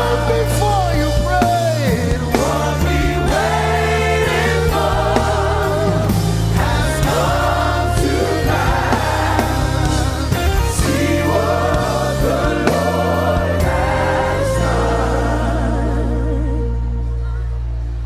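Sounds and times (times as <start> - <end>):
congregation and choir singing: 0.0 - 17.3
live band playing: 0.0 - 18.0.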